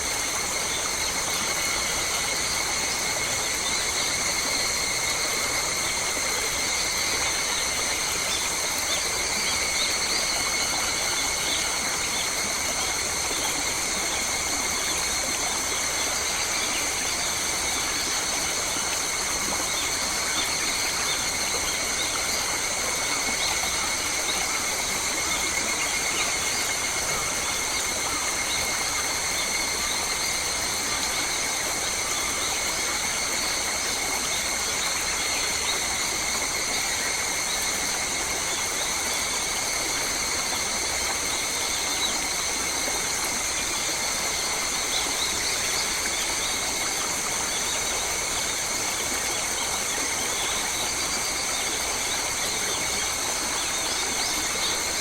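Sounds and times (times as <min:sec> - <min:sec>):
insect chorus shrill tones: 0:00.0 - 0:55.0.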